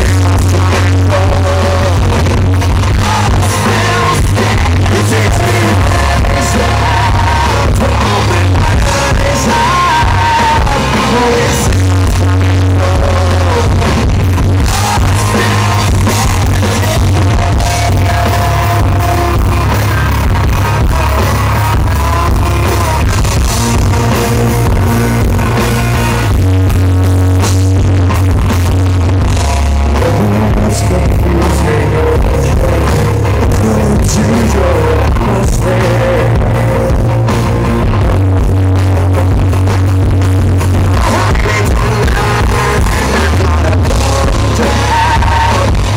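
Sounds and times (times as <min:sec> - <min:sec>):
man singing: 0:00.0 - 0:25.6, 0:29.8 - 0:38.3, 0:40.8 - 0:45.9
rock band playing: 0:00.0 - 0:45.9.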